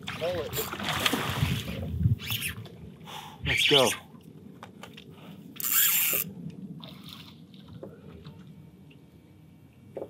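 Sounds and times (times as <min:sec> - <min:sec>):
faint water sounds: 0:00.0 - 0:10.0.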